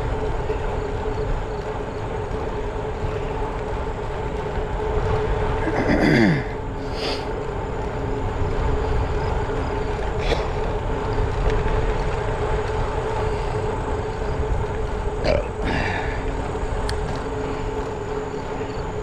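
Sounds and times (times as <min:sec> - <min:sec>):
bicycle road noise: 0:00.0 - 0:19.0
steady hum: 0:00.0 - 0:19.0
wind rushing over microphone: 0:00.0 - 0:19.0.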